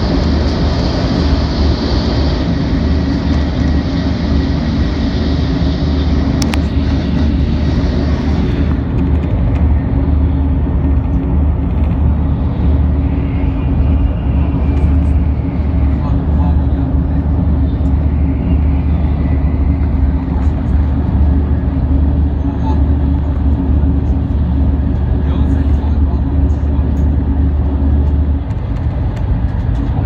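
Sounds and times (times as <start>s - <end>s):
train rumbling at speed: 0.0s - 30.0s.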